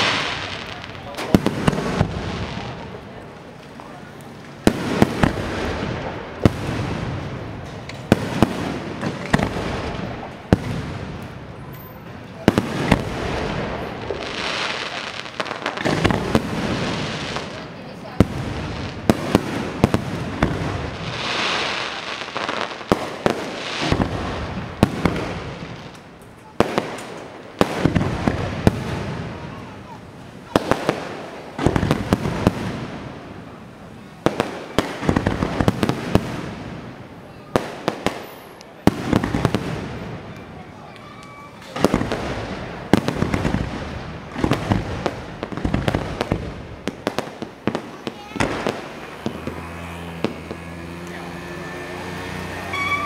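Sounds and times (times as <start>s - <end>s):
firework bangs: 0.0s - 53.0s
firework crackle and hiss: 0.0s - 53.0s.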